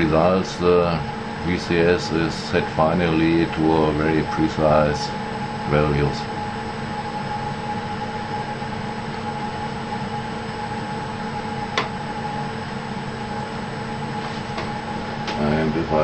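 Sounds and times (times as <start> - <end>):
mechanical hum and hiss: 0.0 - 16.0.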